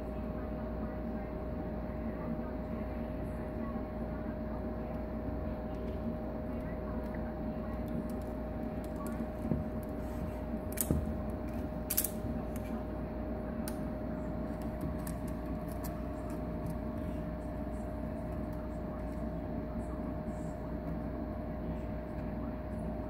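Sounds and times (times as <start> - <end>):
aquarium motor hum: 0.0 - 23.0.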